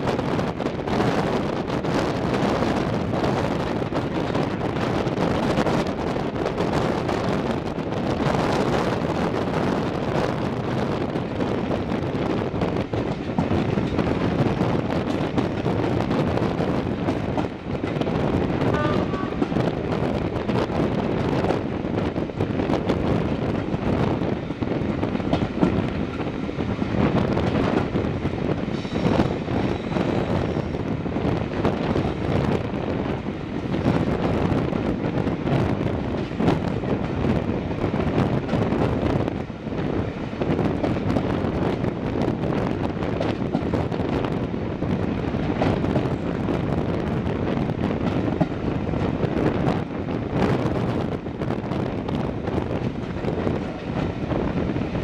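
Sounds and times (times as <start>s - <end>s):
diesel train running: 0.0s - 55.0s
wind buffeting microphone: 0.0s - 55.0s.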